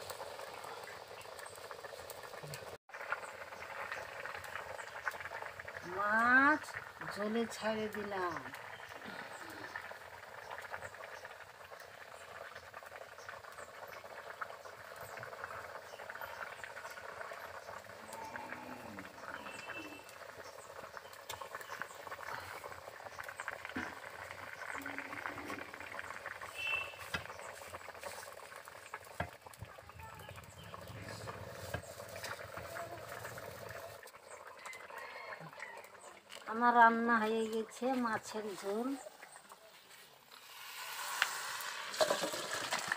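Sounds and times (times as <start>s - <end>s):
broth boiling and bubbling: 0.0s - 42.9s.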